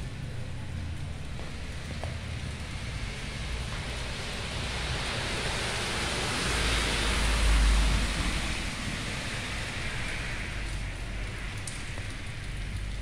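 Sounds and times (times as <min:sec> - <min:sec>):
heavy rain hissing: 0:00.1 - 0:13.0.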